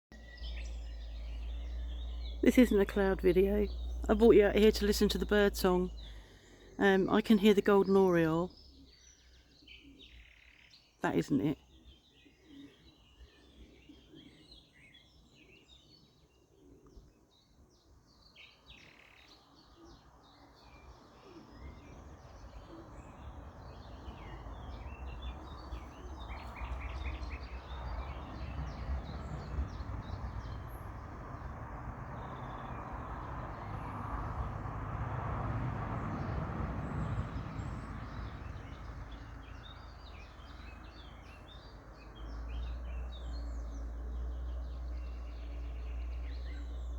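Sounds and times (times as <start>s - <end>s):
songbirds chirping and singing: 0.1s - 46.9s.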